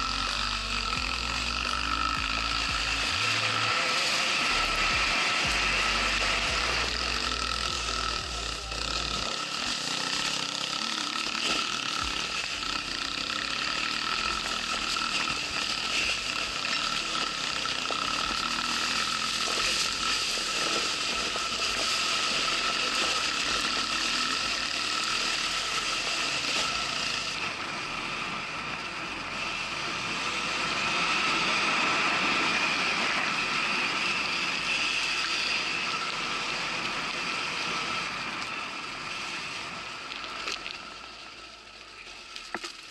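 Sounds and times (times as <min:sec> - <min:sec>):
electric motor whine: 0:00.0 - 0:42.7.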